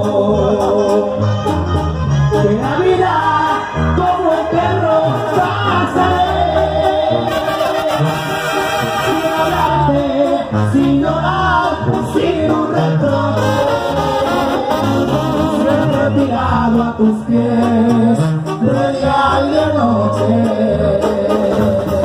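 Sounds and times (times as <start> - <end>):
brass band playing: 0.0 - 22.0
man singing: 0.0 - 22.0.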